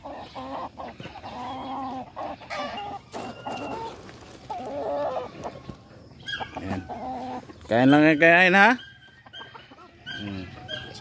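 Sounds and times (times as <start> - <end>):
chickens clucking and calling: 0.0 - 11.0.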